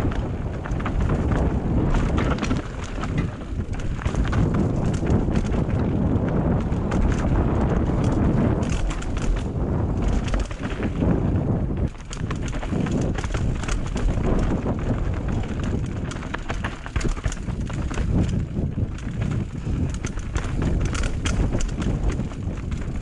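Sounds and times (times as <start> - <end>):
bike frame clicks and knocks: 0.0 - 23.0
tyres crunching over stones: 0.1 - 9.4, 10.0 - 23.0.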